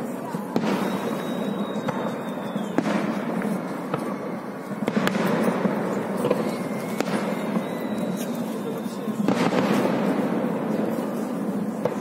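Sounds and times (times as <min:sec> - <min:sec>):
distant fireworks bangs and crackles: 0:00.0 - 0:12.0.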